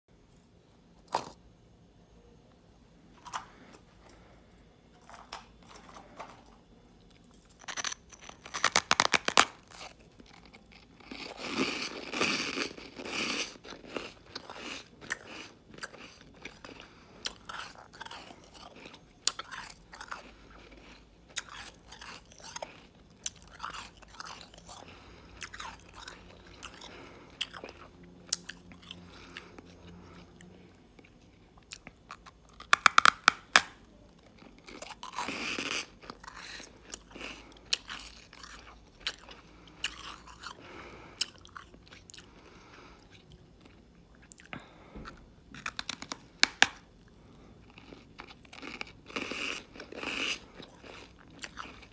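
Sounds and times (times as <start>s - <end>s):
ice being chewed: 5.0s - 33.3s, 34.2s - 44.8s, 45.5s - 51.9s.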